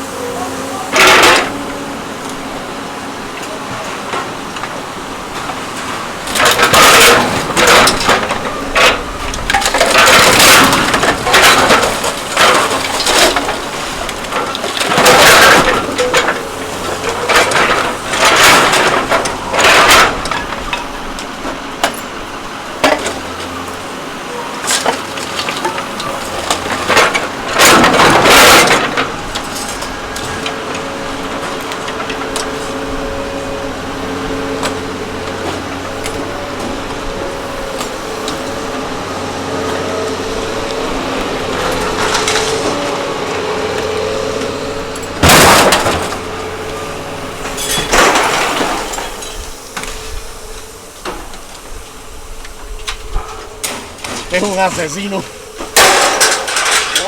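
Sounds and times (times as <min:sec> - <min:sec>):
low machine hum: 0:00.0 - 0:57.0
scrap metal crunching: 0:00.0 - 0:57.0.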